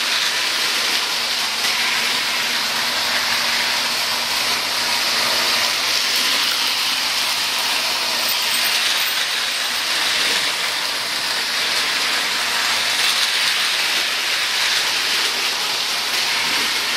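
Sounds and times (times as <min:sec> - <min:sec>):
toy trains rolling on track: 0:00.0 - 0:16.9.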